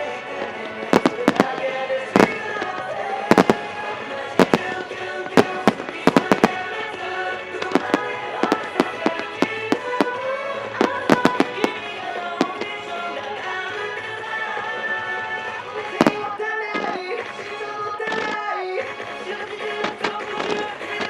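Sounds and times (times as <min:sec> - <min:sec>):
fireworks bursting: 0:00.0 - 0:18.5, 0:19.2 - 0:21.0
music playing: 0:00.0 - 0:21.0.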